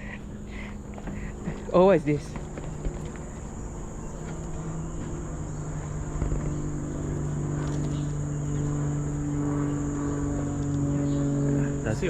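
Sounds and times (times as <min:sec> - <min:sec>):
high-pitched insect drone: 0:00.0 - 0:12.0
steady low hum: 0:00.0 - 0:12.0.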